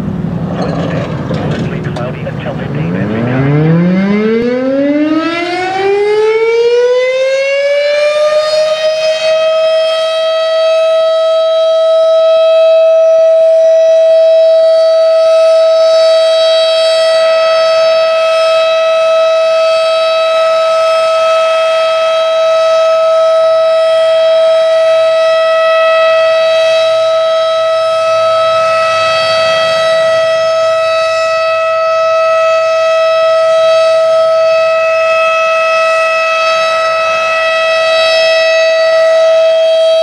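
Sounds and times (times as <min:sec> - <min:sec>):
siren winding up to steady tone: 0:02.8 - 0:40.0.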